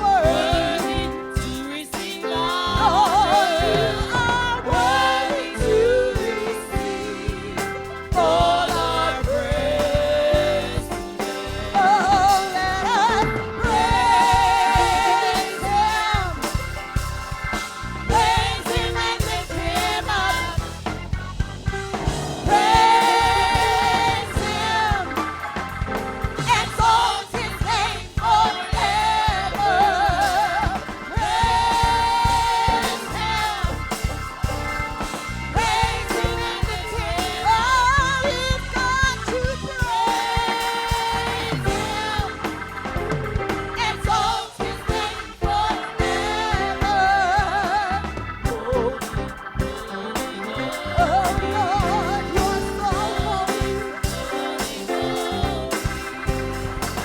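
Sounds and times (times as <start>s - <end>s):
band with steady beat: 0.0s - 57.0s
gospel singing with vibrato: 0.0s - 57.0s.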